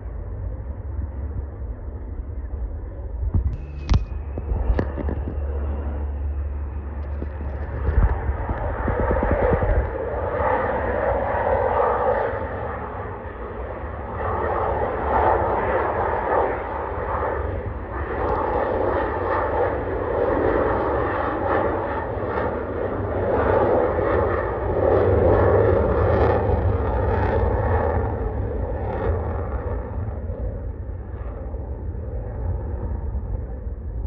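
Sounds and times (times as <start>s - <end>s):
airplane engine drone: 0.0s - 34.0s.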